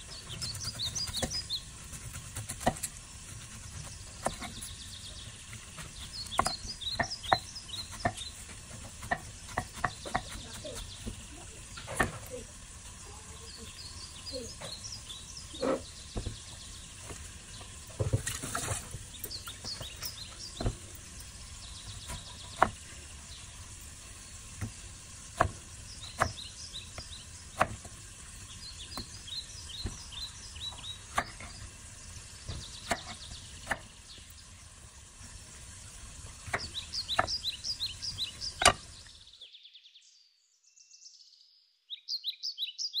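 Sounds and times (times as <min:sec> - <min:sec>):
small birds chirping: 0:00.0 - 0:34.8, 0:36.3 - 0:43.0
steady hiss: 0:00.0 - 0:39.2.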